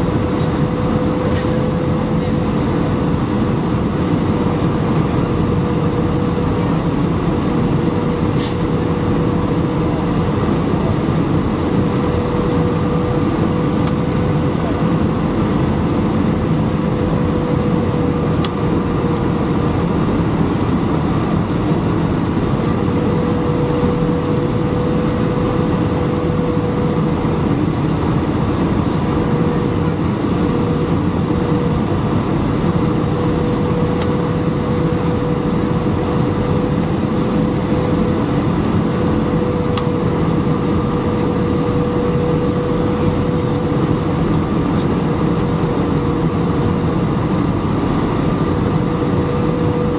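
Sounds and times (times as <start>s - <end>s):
aircraft cabin engine and airflow noise: 0.0s - 49.9s
constant hum: 0.0s - 49.9s.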